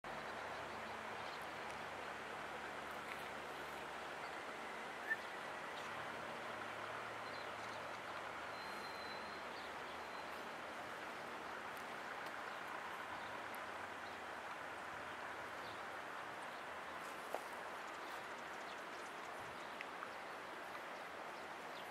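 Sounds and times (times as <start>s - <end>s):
rushing outdoor background noise: 0.1s - 21.9s.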